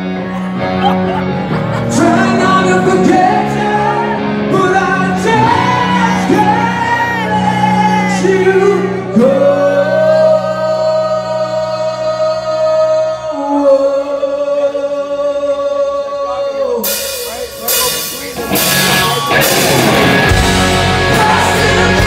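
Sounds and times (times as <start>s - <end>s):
live rock band playing: 0.0s - 13.3s, 16.4s - 22.0s
man singing: 1.9s - 22.0s.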